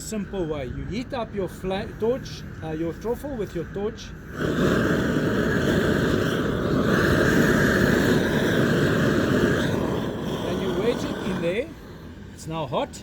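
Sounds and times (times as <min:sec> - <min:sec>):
gas torch burning: 0:00.0 - 0:13.0.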